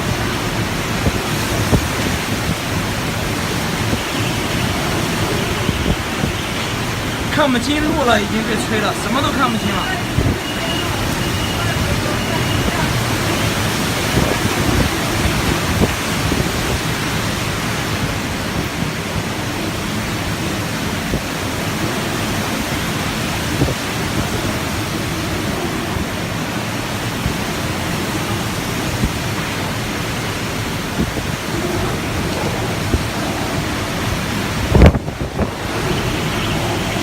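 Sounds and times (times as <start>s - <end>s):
wind gusts buffeting microphone: 0.0s - 37.0s
wind-driven heavy rain: 0.0s - 37.0s.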